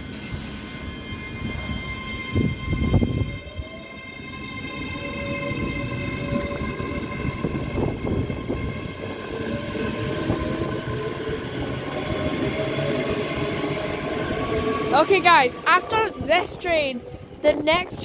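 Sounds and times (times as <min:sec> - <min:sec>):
train electric whine: 0:00.0 - 0:18.0
wheels rumbling on rails: 0:00.3 - 0:18.0.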